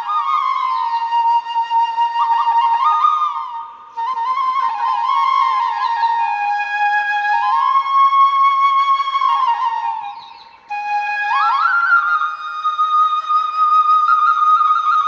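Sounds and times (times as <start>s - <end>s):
solo flute melody: 0.0s - 15.0s.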